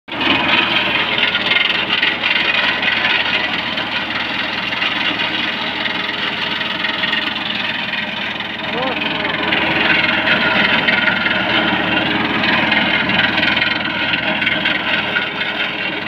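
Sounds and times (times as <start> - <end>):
rotary mower cutting stalks: 0.1 - 16.0
tractor diesel engine running: 0.1 - 16.0.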